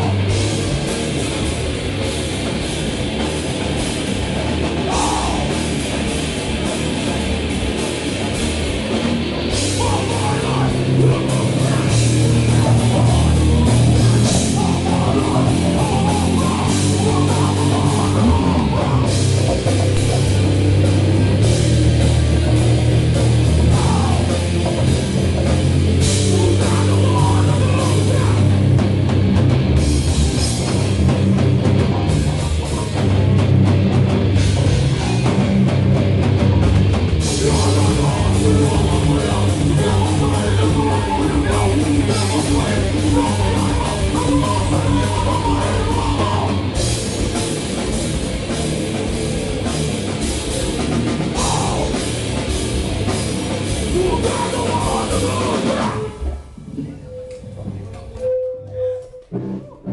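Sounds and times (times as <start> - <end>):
pounding drum kit: 0.0 - 57.0
bass guitar: 0.0 - 59.9
distorted electric guitar: 0.0 - 59.9.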